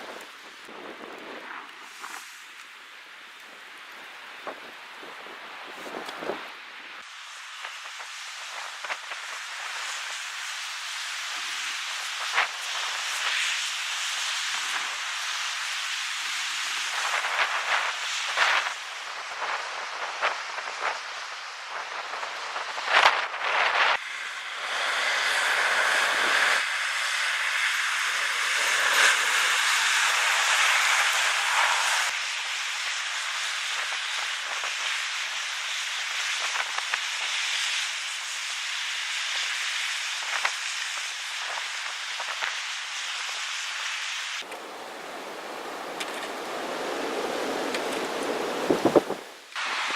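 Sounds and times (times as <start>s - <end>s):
blizzard wind and blowing snow: 0.0s - 49.9s.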